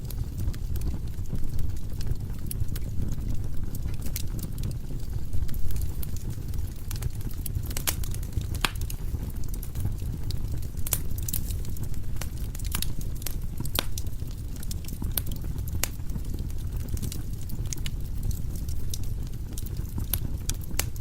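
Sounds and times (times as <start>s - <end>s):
burning logs popping and crackling: 0.0s - 21.0s
low rumble of flames: 0.0s - 21.0s.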